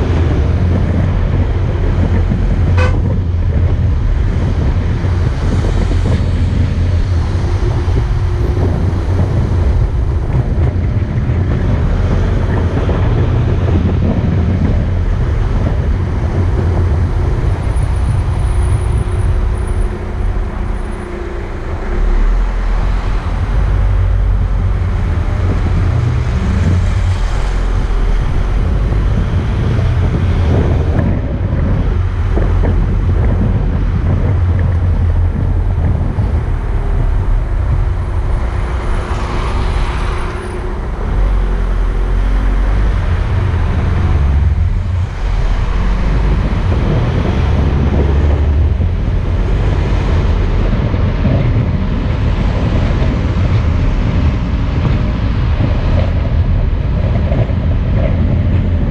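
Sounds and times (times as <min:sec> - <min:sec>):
car engine and road rumble: 0:00.0 - 0:58.9
wind buffeting microphone: 0:00.0 - 0:58.9.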